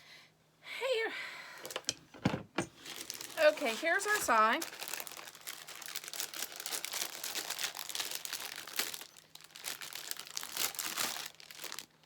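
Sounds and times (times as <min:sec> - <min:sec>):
crinkly material rustling: 0:01.7 - 0:12.0.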